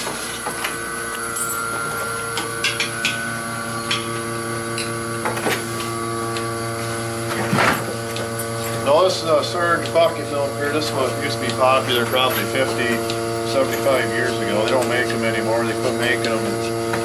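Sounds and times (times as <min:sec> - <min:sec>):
vacuum pump humming: 0:00.0 - 0:17.0.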